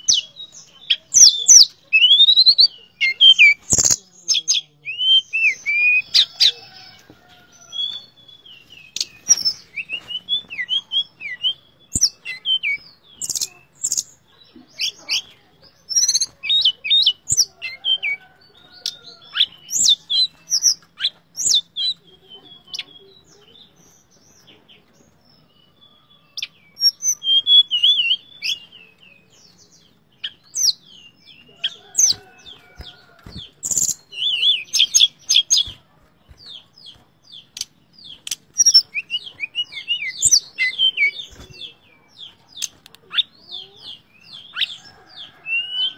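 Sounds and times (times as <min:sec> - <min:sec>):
bird chirping and twittering: 0:00.0 - 0:45.9.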